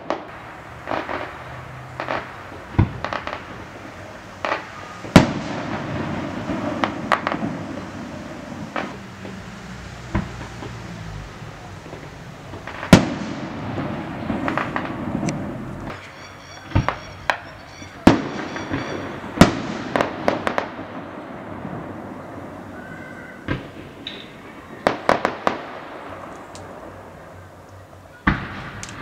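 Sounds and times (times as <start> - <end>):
fireworks shells bursting: 0.0 - 29.0.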